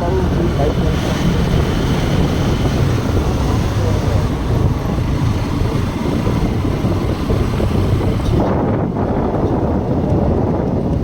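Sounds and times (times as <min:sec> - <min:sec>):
road and engine noise: 0:00.0 - 0:11.0
wind rushing over microphone: 0:00.0 - 0:11.0.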